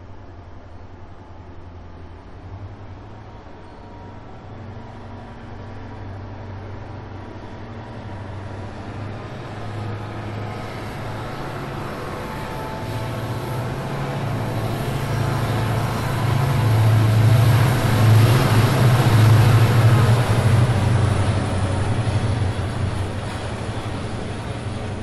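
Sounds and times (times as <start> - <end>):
diesel locomotive engine droning: 0.0 - 25.0
train wheels rumbling on rails: 4.4 - 25.0.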